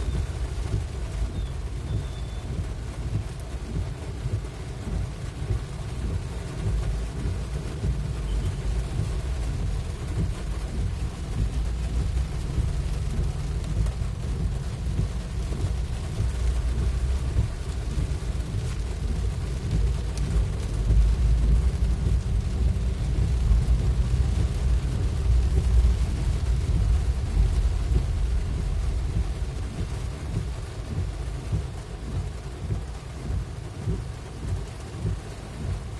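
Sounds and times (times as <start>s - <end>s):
low rumble: 0.0s - 35.9s
rain hissing: 0.0s - 35.9s.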